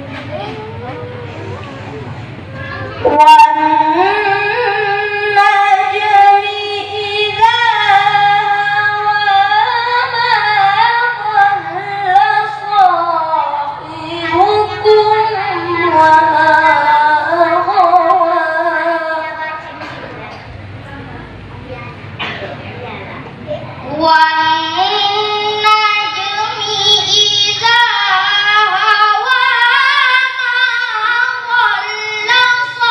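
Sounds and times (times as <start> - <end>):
boy reciting melodically: 0.0 - 21.1, 21.7 - 32.9.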